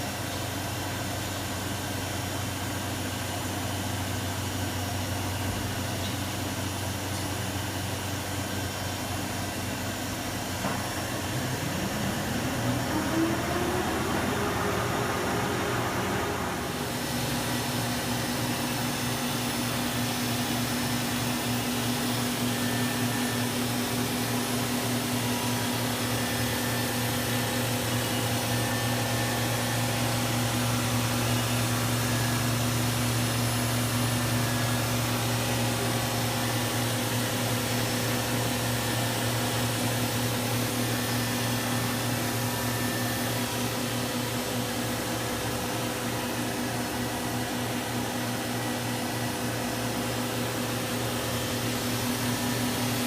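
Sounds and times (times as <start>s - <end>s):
machining center spindle humming: 0.2s - 53.0s.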